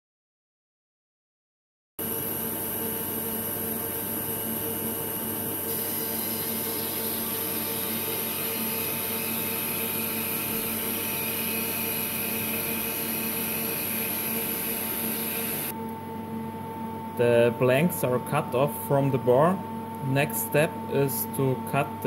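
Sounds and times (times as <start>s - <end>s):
machine hum: 2.0s - 22.0s.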